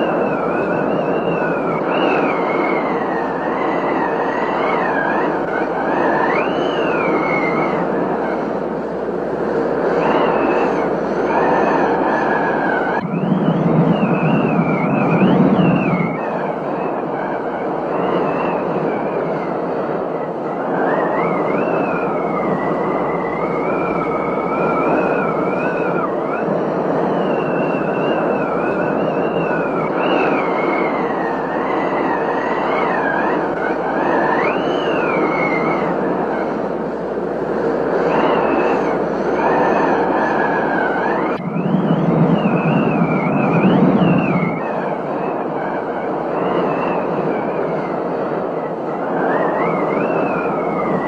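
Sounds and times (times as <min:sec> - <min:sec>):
wind whistling: 0:00.0 - 0:51.0.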